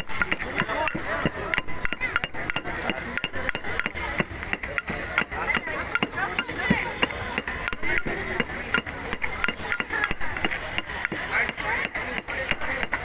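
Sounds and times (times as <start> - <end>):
fruit being mashed by hand: 0.1 - 13.0.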